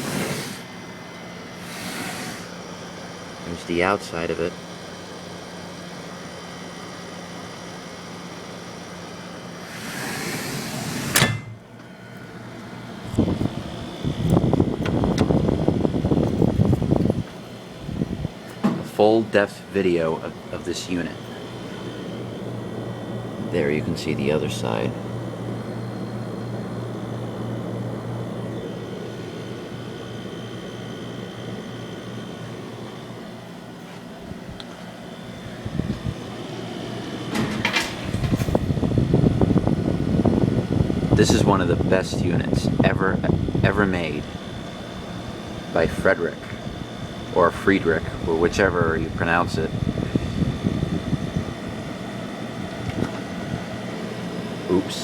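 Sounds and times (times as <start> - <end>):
air conditioner humming: 0.0 - 55.0.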